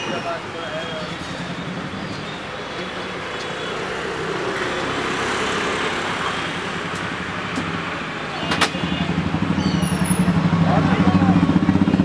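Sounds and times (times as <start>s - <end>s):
vehicle engines in street traffic: 0.0s - 12.0s.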